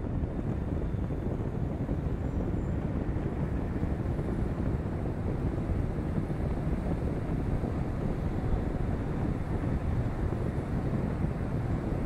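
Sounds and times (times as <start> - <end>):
tyre noise on concrete road: 0.0 - 12.0
wind buffeting microphone: 0.0 - 12.0.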